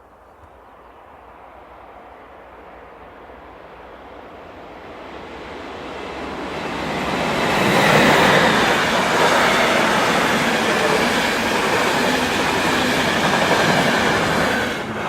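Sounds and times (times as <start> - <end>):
train rushing: 1.8 - 15.0.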